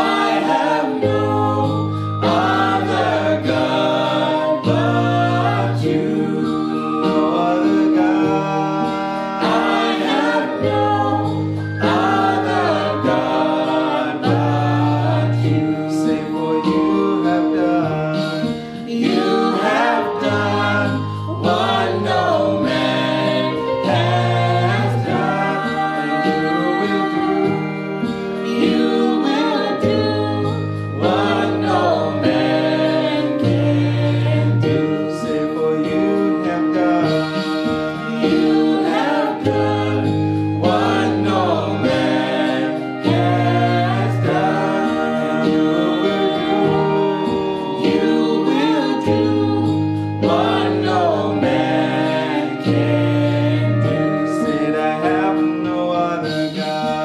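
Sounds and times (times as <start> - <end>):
instrumental backing: 0.0 - 57.0
vocal quartet singing in harmony: 0.0 - 57.0.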